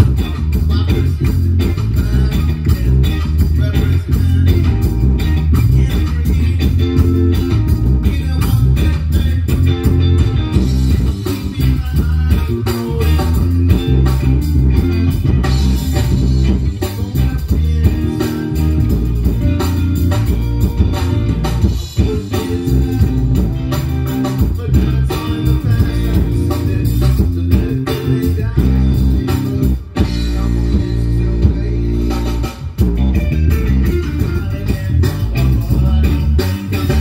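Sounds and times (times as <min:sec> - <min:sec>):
bass guitar: 0:00.0 - 0:37.0
electric guitar: 0:00.0 - 0:37.0
steady drum beat: 0:00.0 - 0:37.0.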